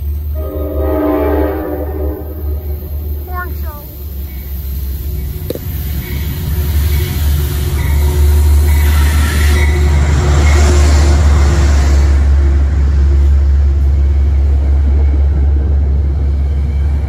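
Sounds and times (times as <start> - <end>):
train coaches rumbling past: 0.0 - 17.0.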